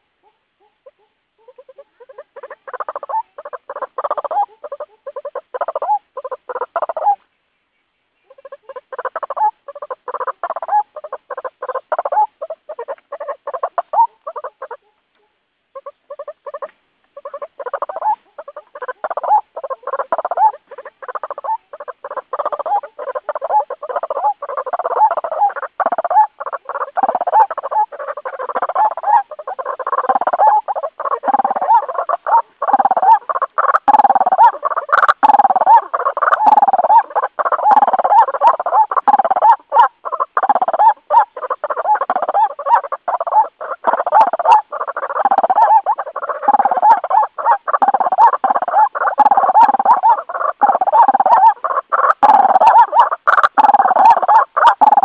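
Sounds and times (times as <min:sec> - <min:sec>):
waterhen calling rapidly: 0:00.6 - 0:07.2, 0:08.2 - 0:15.0, 0:15.7 - 0:55.0.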